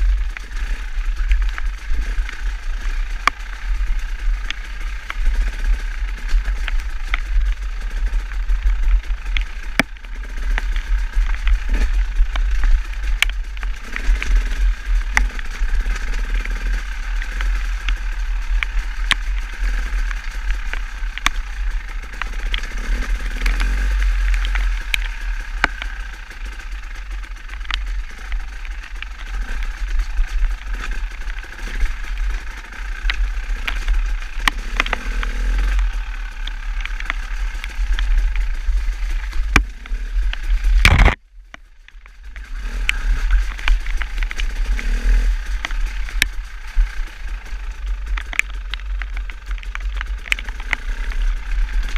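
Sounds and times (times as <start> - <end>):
road noise: 0.0 - 51.9
wind rumble: 0.0 - 51.9
clicks and rattles: 0.1 - 51.9.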